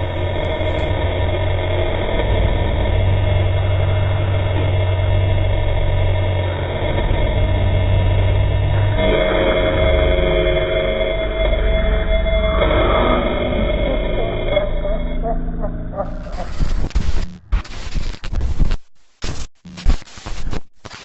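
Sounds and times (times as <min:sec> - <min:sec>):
eerie music: 0:00.0 - 0:16.8
low rumbling drone: 0:00.0 - 0:17.5.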